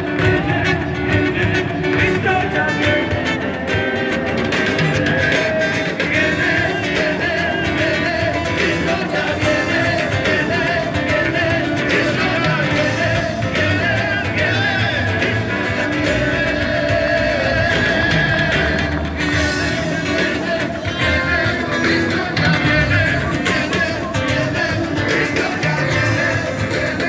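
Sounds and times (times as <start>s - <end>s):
amplified band playing: 0.0s - 27.0s
men singing together: 0.0s - 27.0s.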